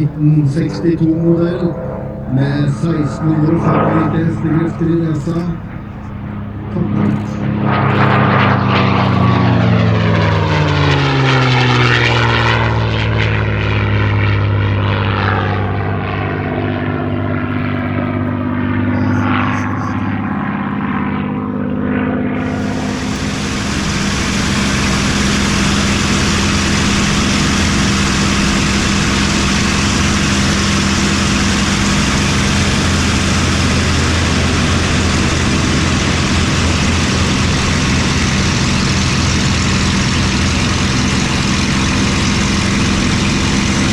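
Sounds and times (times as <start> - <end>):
propeller plane engine passing by: 0.0 - 43.9
steady engine drone: 0.0 - 43.9.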